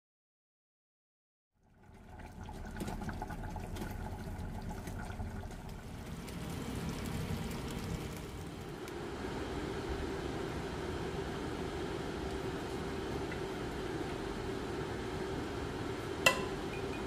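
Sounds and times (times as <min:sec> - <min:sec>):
sauce bubbling in a pot: 0:01.6 - 0:17.0.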